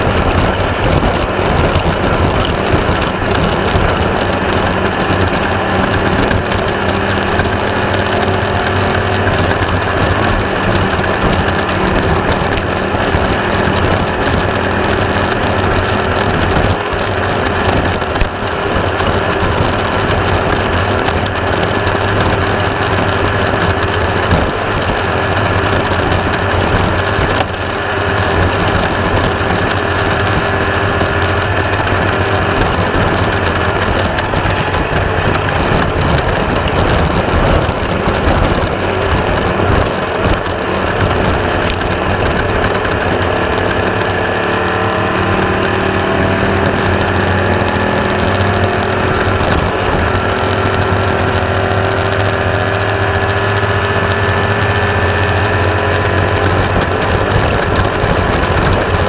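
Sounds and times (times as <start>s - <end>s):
chassis rattling: 0.0s - 52.2s
race buggy engine running hard: 0.0s - 59.0s.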